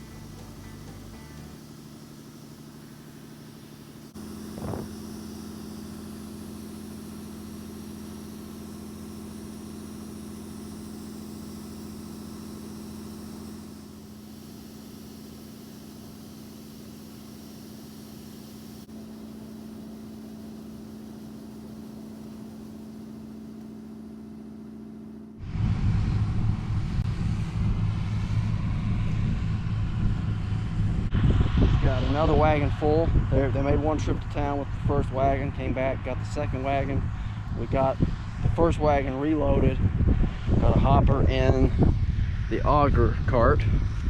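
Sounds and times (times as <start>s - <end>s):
harvester engine running: 0.0s - 44.0s.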